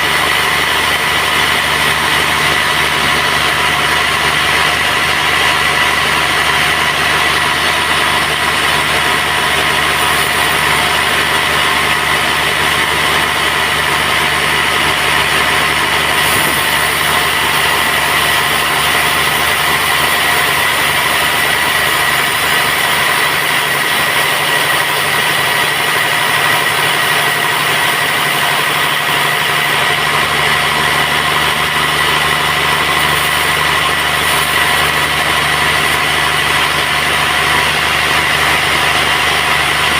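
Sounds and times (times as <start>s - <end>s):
band saw high whine: 0.0s - 39.9s
low machine hum: 0.0s - 39.9s.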